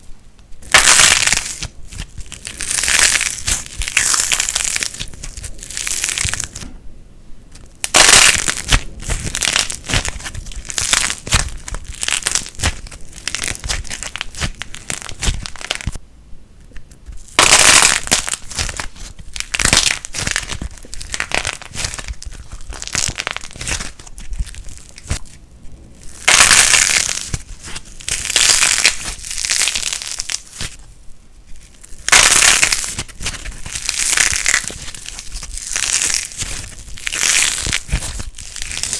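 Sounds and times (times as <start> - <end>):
plasticine crackling in hands: 0.5 - 6.7, 7.5 - 16.0, 16.6 - 25.4, 26.0 - 30.9, 31.5 - 38.9.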